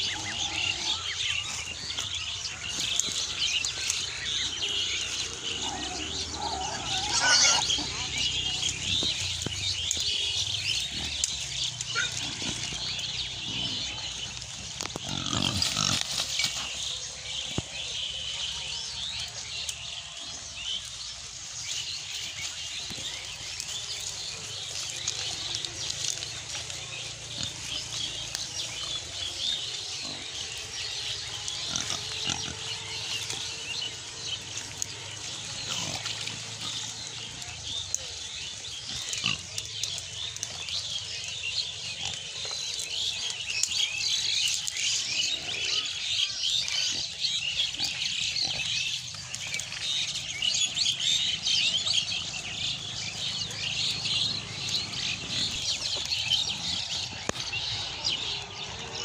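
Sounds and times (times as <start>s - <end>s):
pigs grunting: 0.0s - 59.0s.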